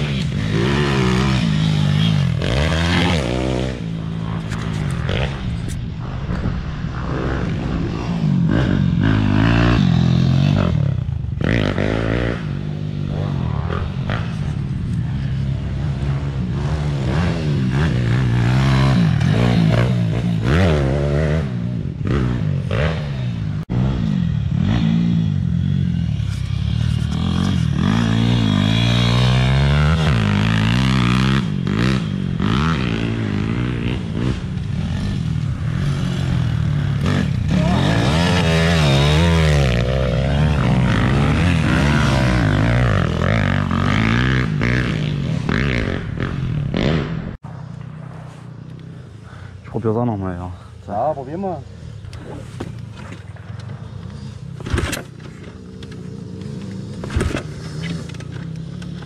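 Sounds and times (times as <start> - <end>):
motorbike engine revving: 0.0 - 47.4.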